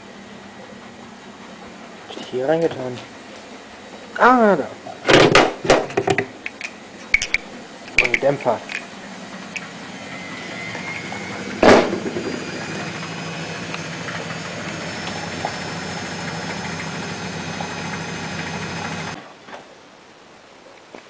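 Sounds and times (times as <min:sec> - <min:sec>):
washing machine motor hum: 0:00.0 - 0:19.2.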